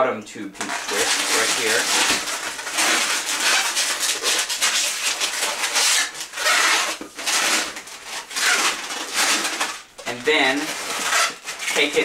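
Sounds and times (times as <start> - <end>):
balloons rubbing together: 0.6 - 12.0.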